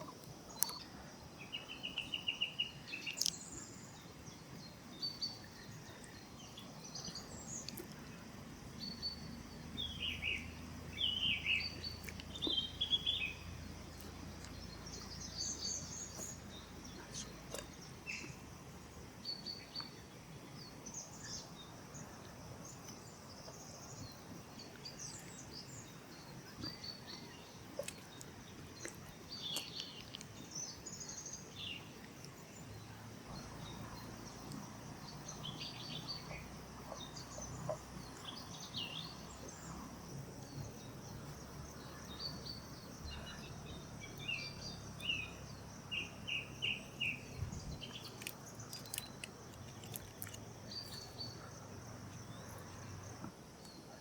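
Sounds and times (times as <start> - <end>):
birds chirping: 0.0 - 54.0
insect drone: 0.0 - 54.0.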